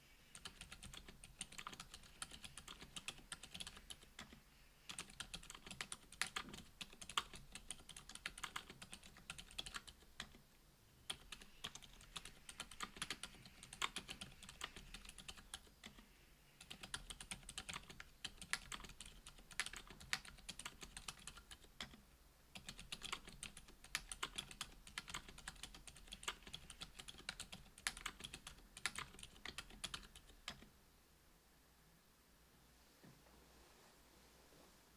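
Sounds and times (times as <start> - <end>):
fast typing on mechanical keyboard: 0.4 - 10.4, 11.1 - 16.0, 16.6 - 22.0, 22.6 - 30.7.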